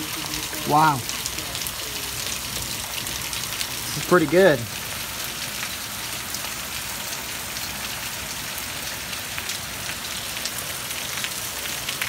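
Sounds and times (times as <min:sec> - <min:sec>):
hard rain hissing: 0:00.0 - 0:12.0.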